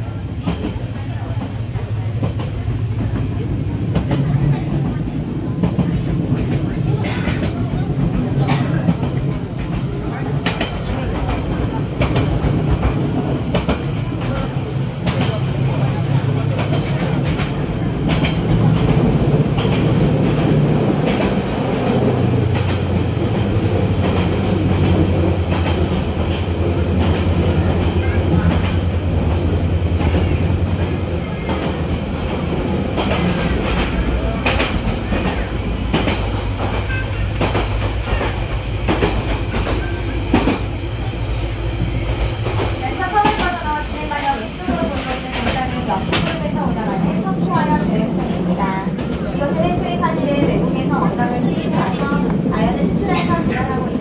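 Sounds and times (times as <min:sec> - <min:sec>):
train rumble inside carriage: 0:00.0 - 0:54.0.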